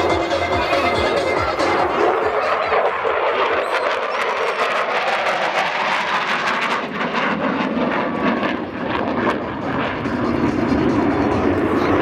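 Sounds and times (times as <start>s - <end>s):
fighter jet roaring past: 0.0s - 12.0s.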